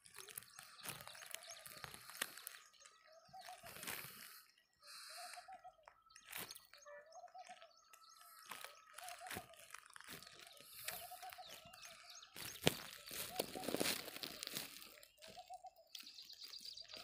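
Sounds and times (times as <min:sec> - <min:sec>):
bird wavering call: 0:00.3 - 0:17.0.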